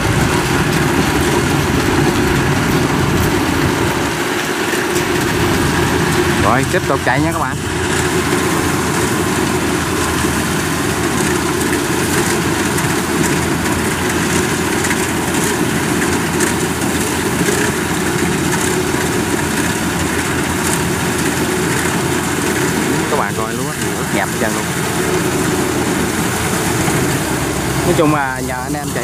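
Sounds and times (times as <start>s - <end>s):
combine harvester diesel engine: 0.0s - 29.0s.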